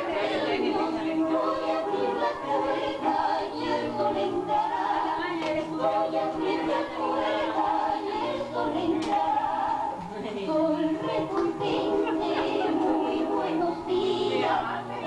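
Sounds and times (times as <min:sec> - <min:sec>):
voices singing together: 0:00.0 - 0:15.0.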